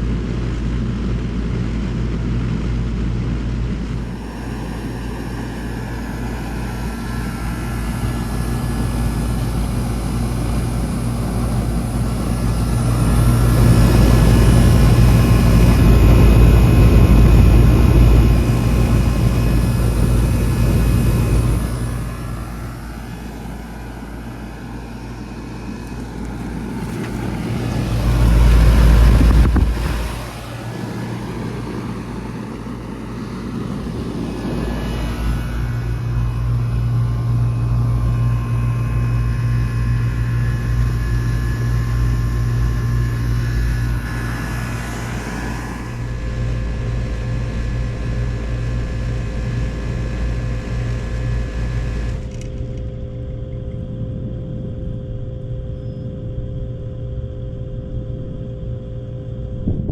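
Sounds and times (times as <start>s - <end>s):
compressor hum: 0.0s - 59.9s
fans whirring: 0.0s - 59.9s
loud low rumble: 0.0s - 59.9s.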